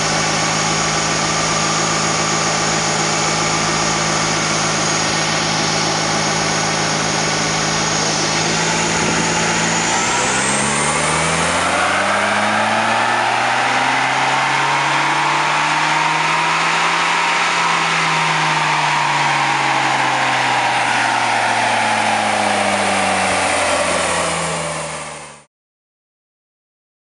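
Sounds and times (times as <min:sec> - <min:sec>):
diesel engine revving: 0:00.0 - 0:25.5.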